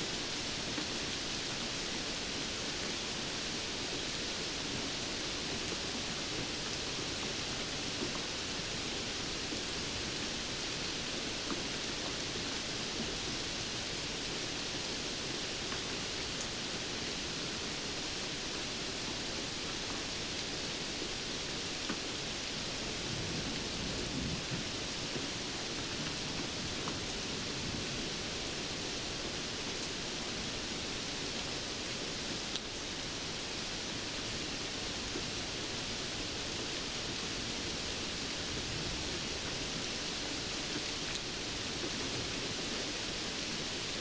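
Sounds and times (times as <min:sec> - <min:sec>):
steady rain hiss: 0:00.0 - 0:44.0.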